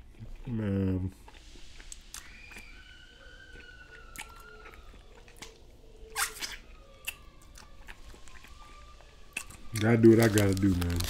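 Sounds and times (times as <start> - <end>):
chewing crispy food: 0.0 - 11.0.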